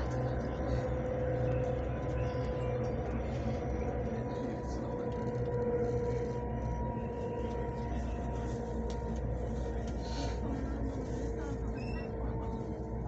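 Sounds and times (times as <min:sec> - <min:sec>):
mid-pitched hum: 0:00.0 - 0:13.0
train carriage rumble: 0:00.0 - 0:13.0.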